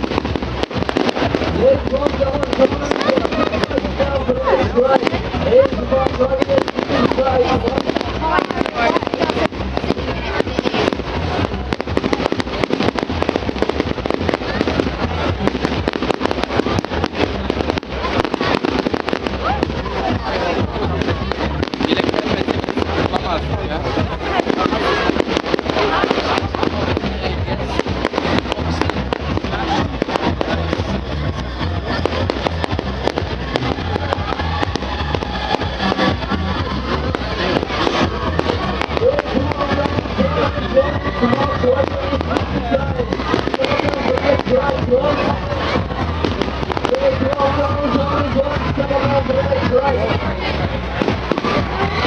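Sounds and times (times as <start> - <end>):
fireworks cracks and bangs: 0.0 - 52.0
music with heavy bass beat: 0.0 - 52.0.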